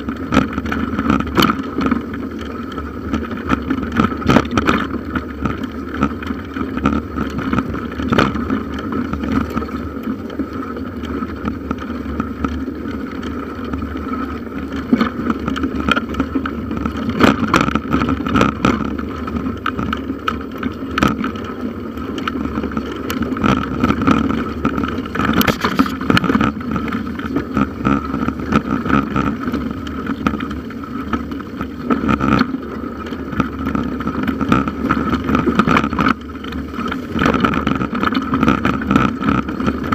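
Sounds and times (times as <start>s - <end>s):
bicycle rattling over bumps: 0.0s - 39.9s
bicycle running on trail: 0.0s - 39.9s.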